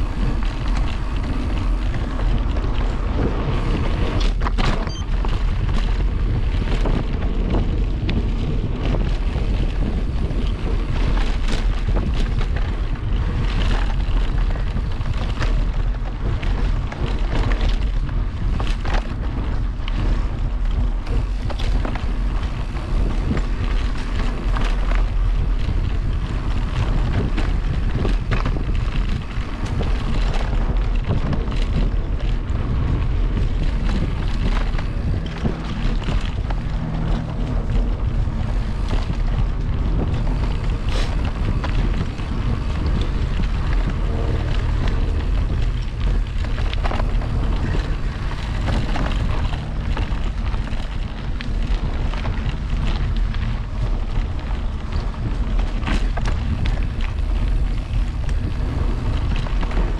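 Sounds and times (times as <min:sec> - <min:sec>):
bike knocks and rattles: 0:00.0 - 0:59.9
wind buffeting microphone: 0:00.0 - 0:59.9.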